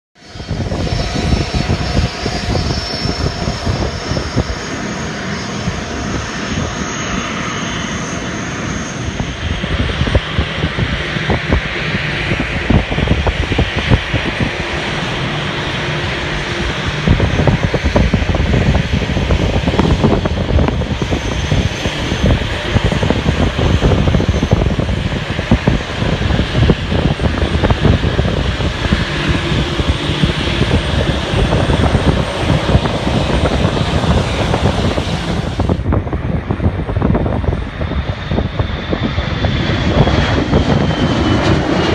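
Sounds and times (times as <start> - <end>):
jet engines rumbling: 0.2 - 41.9.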